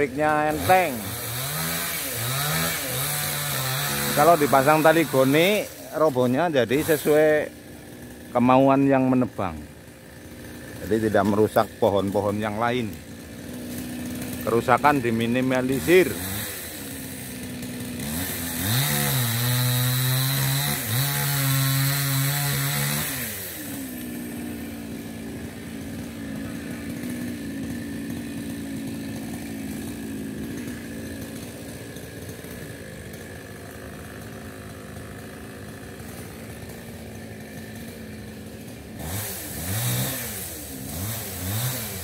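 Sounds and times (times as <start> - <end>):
small engine revving: 0.0 - 42.0.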